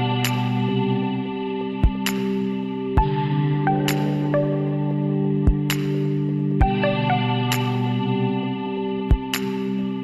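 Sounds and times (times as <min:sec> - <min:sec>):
mellow background music: 0:00.0 - 0:10.0.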